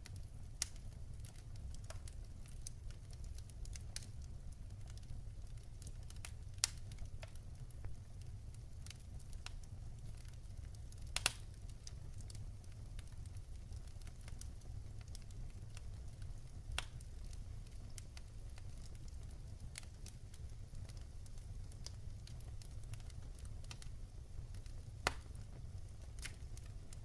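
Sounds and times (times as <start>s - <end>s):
firewood burning and crackling: 0.0s - 27.0s.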